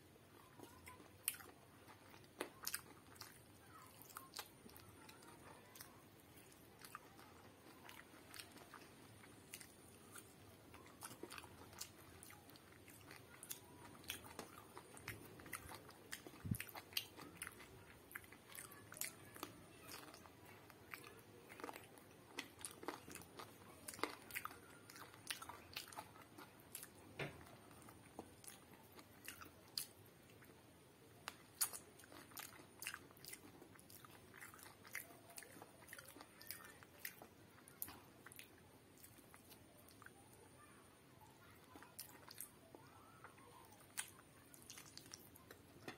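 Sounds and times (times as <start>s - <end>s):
fingers squishing food: 0.3s - 45.9s
chewing and mouth smacks: 0.5s - 30.6s, 31.2s - 40.3s, 41.4s - 45.9s.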